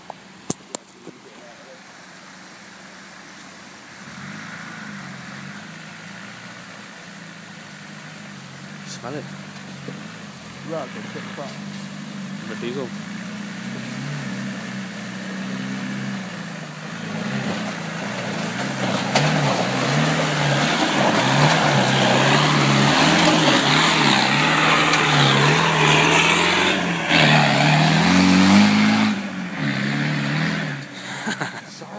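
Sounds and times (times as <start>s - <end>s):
diesel engine under load: 0.0s - 31.9s.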